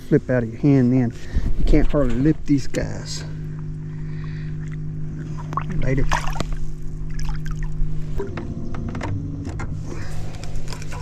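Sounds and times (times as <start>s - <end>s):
electric trolling motor humming: 0.0s - 11.0s.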